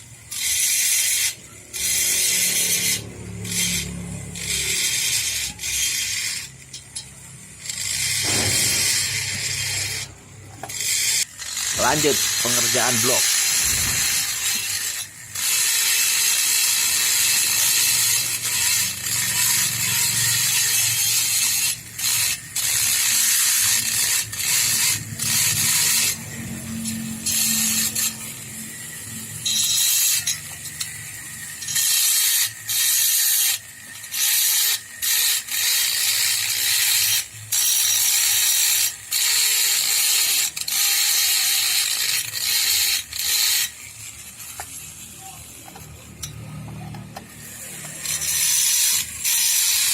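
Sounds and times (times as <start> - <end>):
power tool grinding metal: 0.0 - 49.9.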